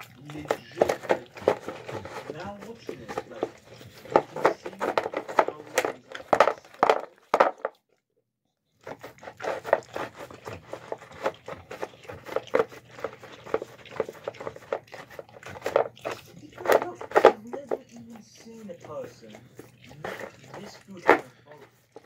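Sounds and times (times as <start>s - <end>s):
dog chewing and smacking: 0.0s - 7.9s, 8.7s - 22.0s.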